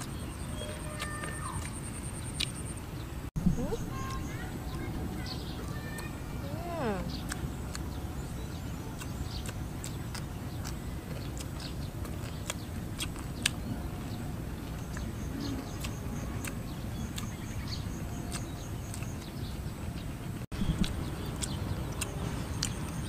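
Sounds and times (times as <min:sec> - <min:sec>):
small birds chirping: 0:00.0 - 0:23.0
steady low rumble: 0:01.7 - 0:23.0.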